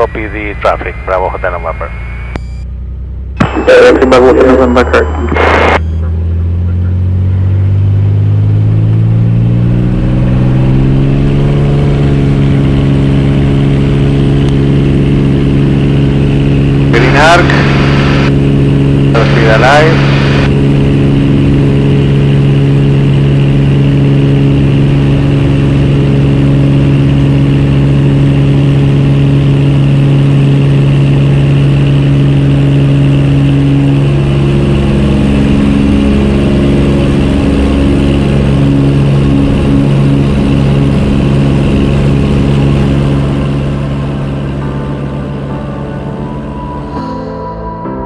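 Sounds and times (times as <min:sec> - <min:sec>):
aircraft engine and propeller drone: 0:00.0 - 0:02.2, 0:02.9 - 0:47.0.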